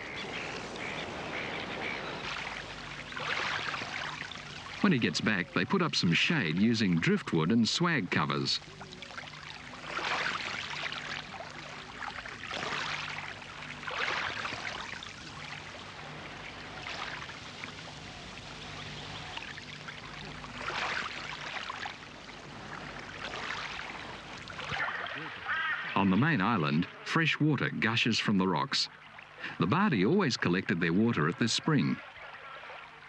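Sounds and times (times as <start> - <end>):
small waves washing onto sand: 0.0 - 27.1.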